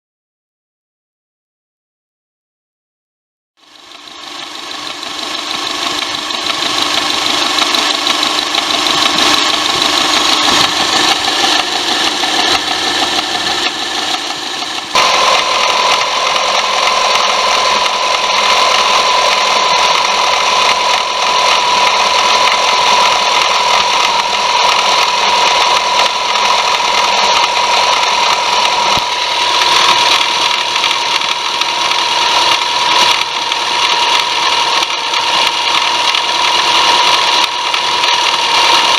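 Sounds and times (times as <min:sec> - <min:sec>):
car engine running: 0:03.6 - 0:38.9
steady high whine: 0:03.7 - 0:38.9.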